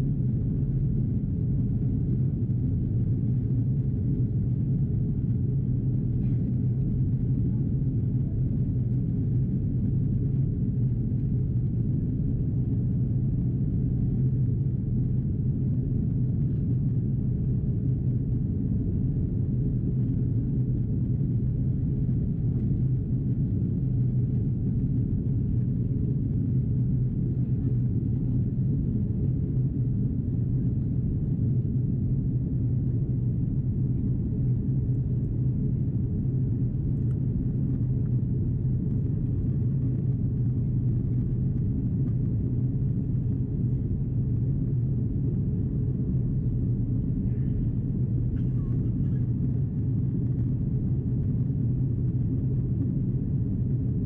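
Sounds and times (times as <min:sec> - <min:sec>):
airliner cabin noise: 0:00.0 - 0:54.0
steady low hum: 0:00.0 - 0:54.0.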